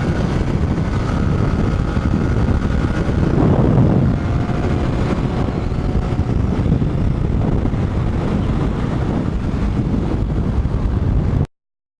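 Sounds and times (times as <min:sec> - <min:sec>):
motorcycle engine: 0:00.0 - 0:11.5
wind buffeting microphone: 0:00.0 - 0:11.5.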